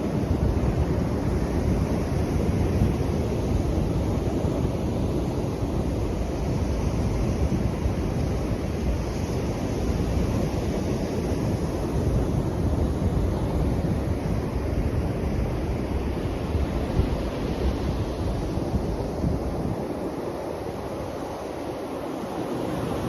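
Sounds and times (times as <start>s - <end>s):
wind buffeting microphone: 0.0s - 21.2s
waves washing in: 0.0s - 23.0s.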